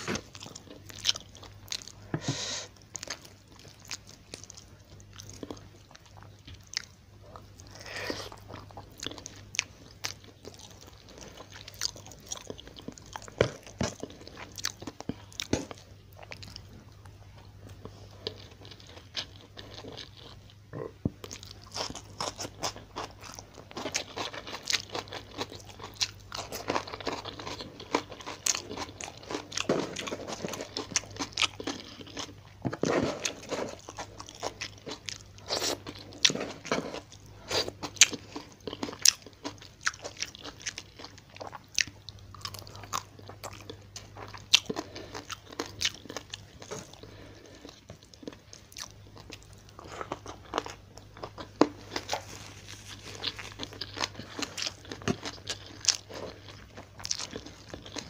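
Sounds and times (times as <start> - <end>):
chewing and crunching food: 0.0 - 58.0
faint low hum: 0.0 - 58.0.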